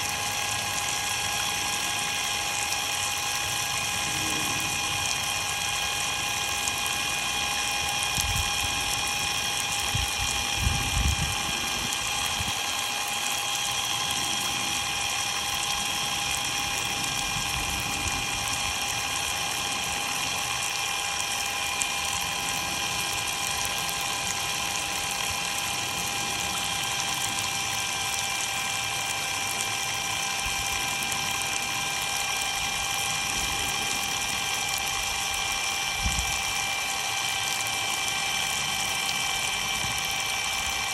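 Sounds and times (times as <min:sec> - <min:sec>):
impact driver motor whine: 0:00.0 - 0:40.9.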